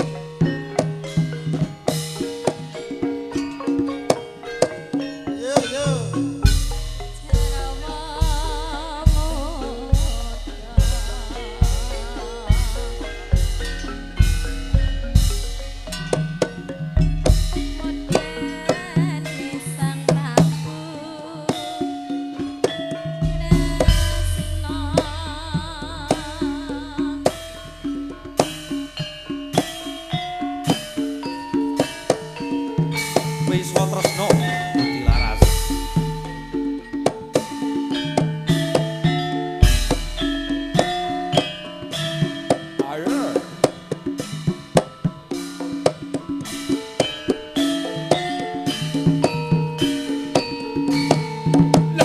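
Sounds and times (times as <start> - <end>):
hand drum strokes: 0.0 - 52.0
ringing metallophone notes: 0.0 - 52.0
wavering vibrato melody: 0.0 - 52.0.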